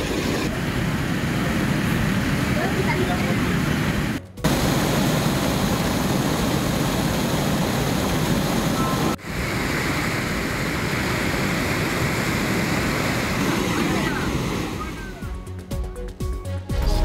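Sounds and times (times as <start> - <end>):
floodwater rushing: 0.0 - 15.3.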